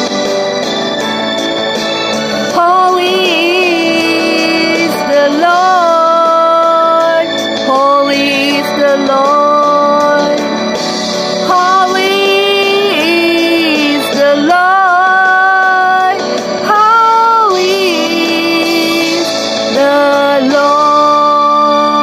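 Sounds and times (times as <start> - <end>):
instrumental backing: 0.0 - 22.0
woman singing slow song: 2.3 - 10.6, 11.4 - 22.0.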